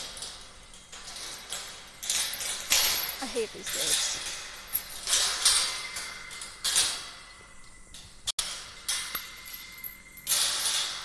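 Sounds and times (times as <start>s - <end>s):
metal gate chain rattling: 0.0s - 11.0s.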